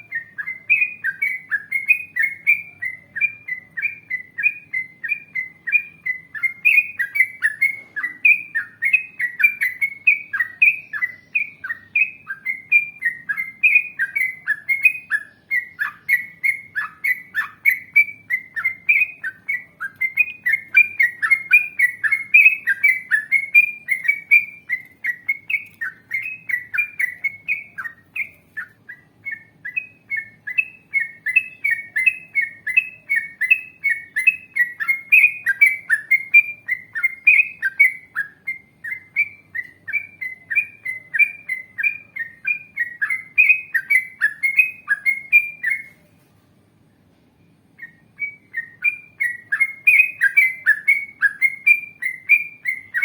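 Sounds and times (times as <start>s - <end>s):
bird singing bubbly whistles: 0.0s - 46.0s, 47.8s - 53.0s.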